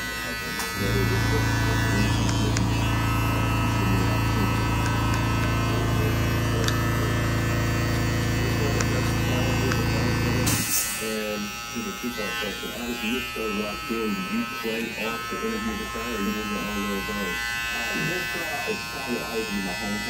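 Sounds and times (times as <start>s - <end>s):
electric hair clippers humming: 0.0s - 20.0s.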